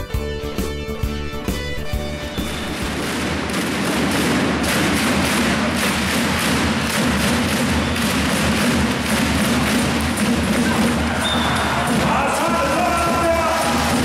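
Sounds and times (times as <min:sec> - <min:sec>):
rhythmic claps and bangs: 0:00.0 - 0:14.0
crowd cheering: 0:02.4 - 0:14.0.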